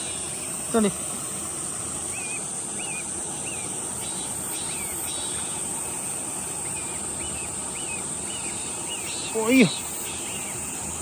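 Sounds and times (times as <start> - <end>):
bird chirping: 0.0 - 11.0
high-pitched insect drone: 0.0 - 11.0.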